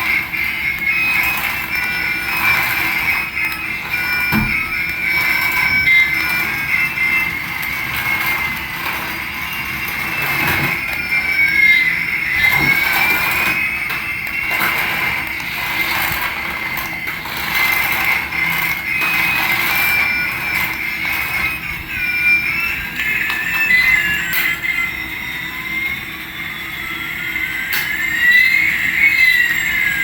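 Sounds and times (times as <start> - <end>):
toy electric whine: 0.0 - 30.0.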